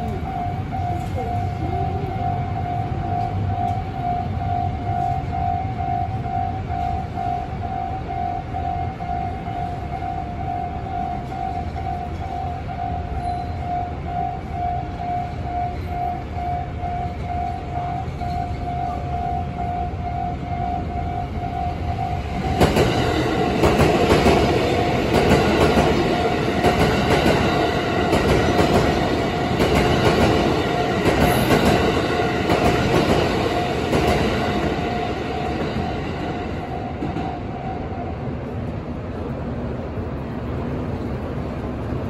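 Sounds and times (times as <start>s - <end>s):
level crossing alarm dinging: 0.0s - 38.4s
city traffic rumble: 0.0s - 42.0s.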